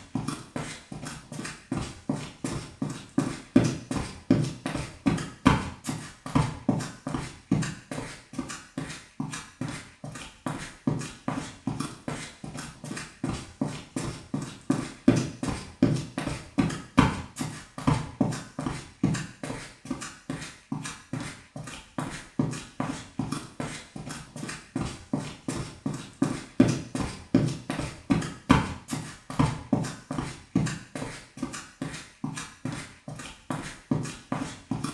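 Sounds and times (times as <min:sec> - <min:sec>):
quick footsteps on wooden floor: 0:00.0 - 0:34.9.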